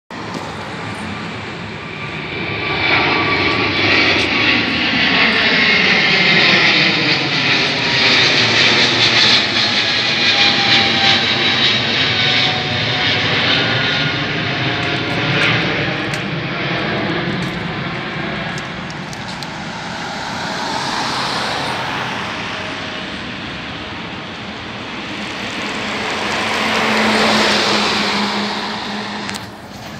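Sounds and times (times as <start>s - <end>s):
jet passing overhead: 0.1s - 29.9s.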